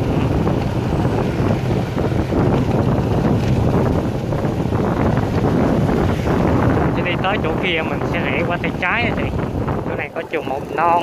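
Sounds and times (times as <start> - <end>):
motorbike engine: 0.0 - 11.0
street traffic: 0.0 - 11.0
wind rush on microphone: 0.0 - 11.0.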